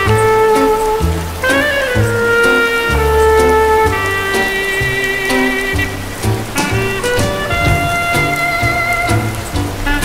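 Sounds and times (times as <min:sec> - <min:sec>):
low bass line: 0:00.0 - 0:10.0
slow saxophone melody: 0:00.0 - 0:10.0
steady rain: 0:00.0 - 0:10.0.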